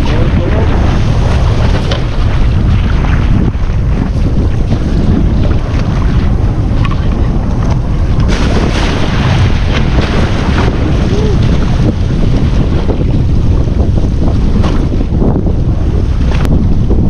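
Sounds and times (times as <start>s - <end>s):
sea spray hitting: 0.0s - 17.0s
sea washing against hull: 0.0s - 17.0s
wind buffeting microphone: 0.0s - 17.0s.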